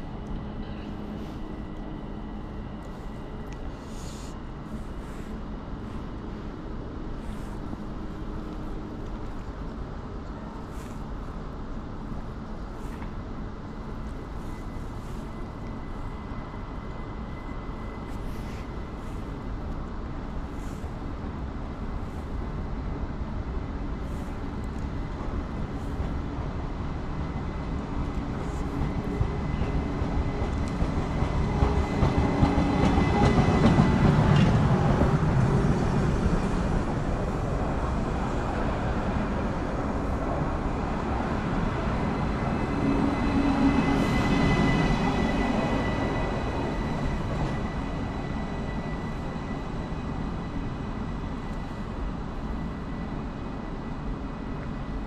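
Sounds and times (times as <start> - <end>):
electric train pulling in: 0.0 - 55.0.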